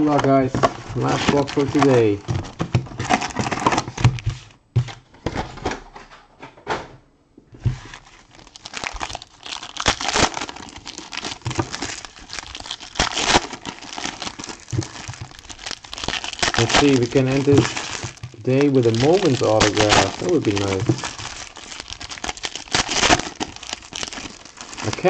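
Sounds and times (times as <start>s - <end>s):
foil wrappers crinkling and tearing: 0.0s - 4.5s, 7.7s - 25.0s.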